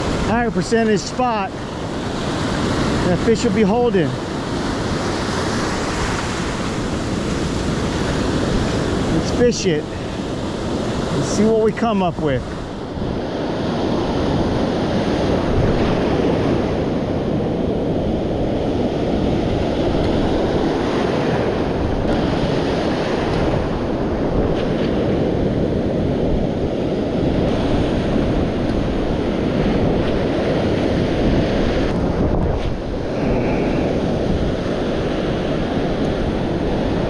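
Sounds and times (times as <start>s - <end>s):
ocean surf breaking: 0.0s - 37.0s
wind rumbling on microphone: 0.0s - 37.0s.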